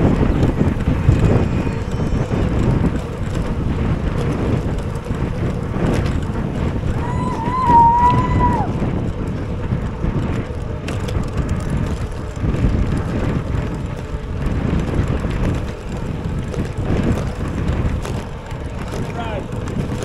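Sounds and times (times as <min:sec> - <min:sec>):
bicycle riding noise: 0:00.0 - 0:20.0
wind buffeting microphone: 0:00.0 - 0:20.0.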